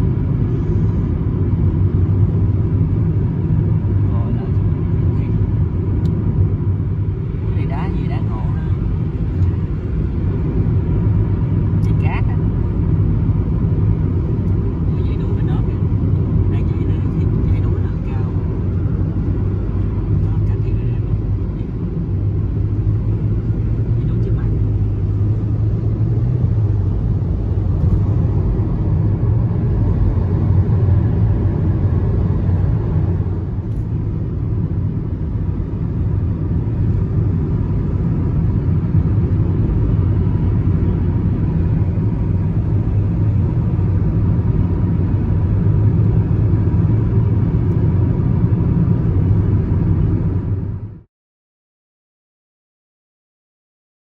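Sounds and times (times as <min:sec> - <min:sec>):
car engine and road noise: 0:00.0 - 0:51.1.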